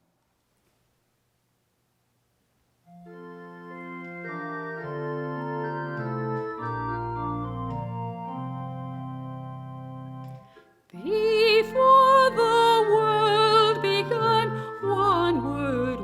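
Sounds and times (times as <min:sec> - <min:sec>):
organ playing hymn chords: 0:02.9 - 0:16.0.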